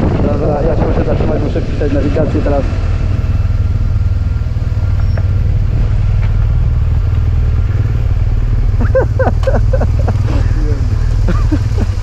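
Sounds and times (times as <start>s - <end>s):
motorcycle engine idling: 0.5s - 12.0s.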